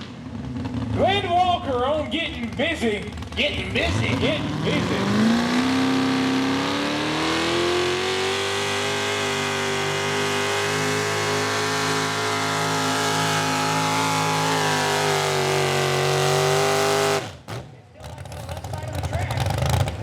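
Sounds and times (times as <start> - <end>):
truck engine revving at full power: 0.0 - 20.0.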